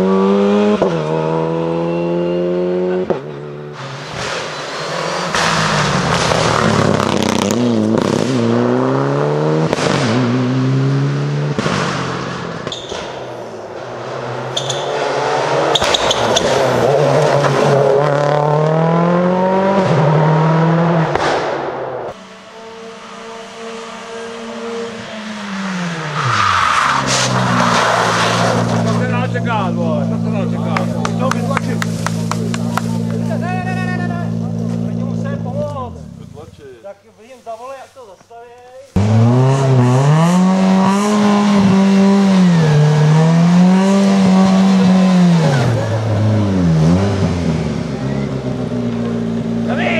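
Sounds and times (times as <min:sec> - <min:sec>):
rally car engine at full throttle: 0:00.0 - 0:36.5, 0:39.0 - 0:49.9.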